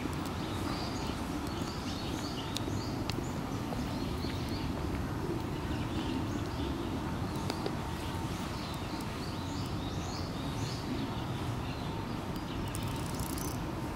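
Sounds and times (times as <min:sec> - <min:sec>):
small birds chirping: 0:00.2 - 0:04.8, 0:05.4 - 0:13.6.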